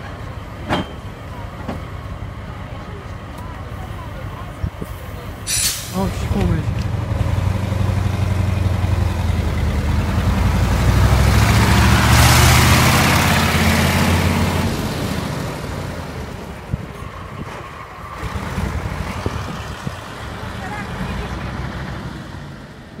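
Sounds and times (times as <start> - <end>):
bus diesel engine pulling away: 0.0 - 23.0.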